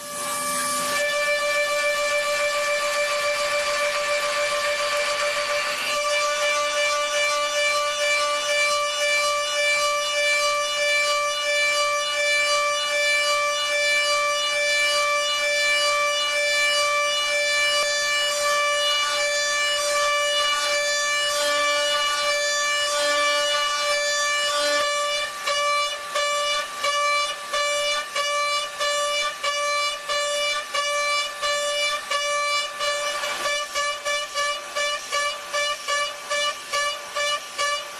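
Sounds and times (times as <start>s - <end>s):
milling machine whining: 0.0s - 37.9s.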